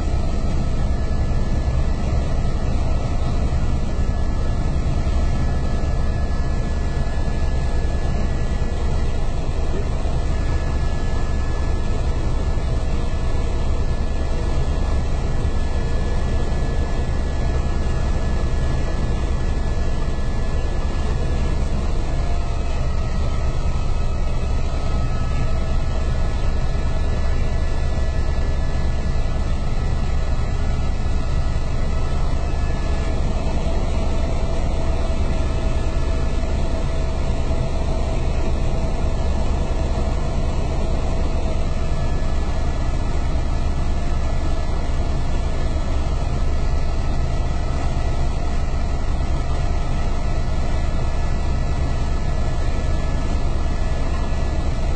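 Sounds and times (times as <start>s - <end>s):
helicopter cabin rumble and whine: 0.0s - 54.9s.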